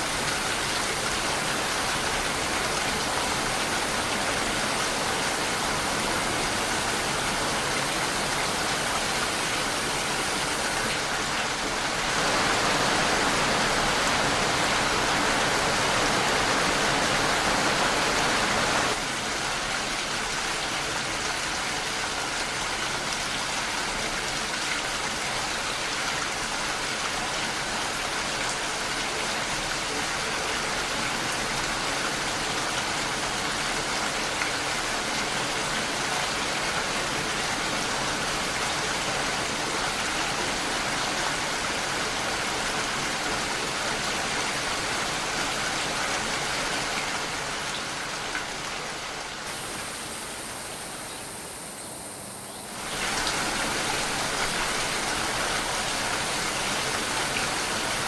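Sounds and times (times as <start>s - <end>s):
dense rainfall hissing: 0.0s - 58.0s.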